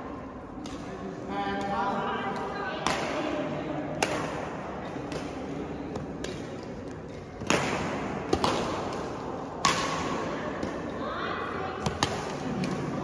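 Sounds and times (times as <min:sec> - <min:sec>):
rackets striking shuttlecock: 0:00.6 - 0:03.2, 0:03.9 - 0:11.0, 0:11.8 - 0:13.0.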